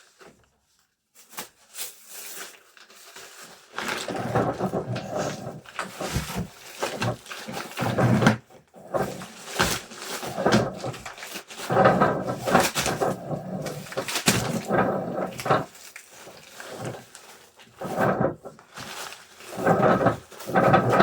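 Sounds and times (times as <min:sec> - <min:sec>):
packaging rustling and scraping: 0:01.1 - 0:21.0.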